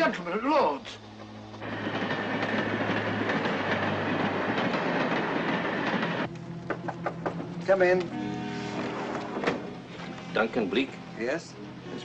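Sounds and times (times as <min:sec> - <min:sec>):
passenger train on rails: 0:00.0 - 0:12.0.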